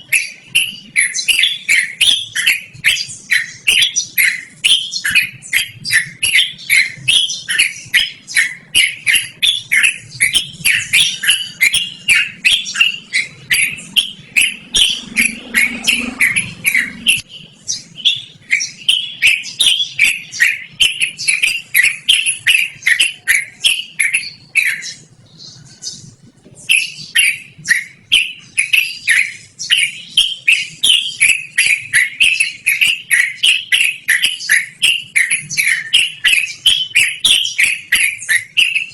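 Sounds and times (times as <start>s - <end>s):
bulbul singing shrill chirps: 0.0s - 38.9s.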